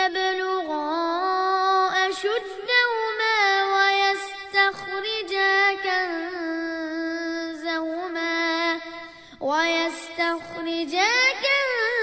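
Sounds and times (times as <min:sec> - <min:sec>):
child chanting melodic recitation: 0:00.0 - 0:12.0.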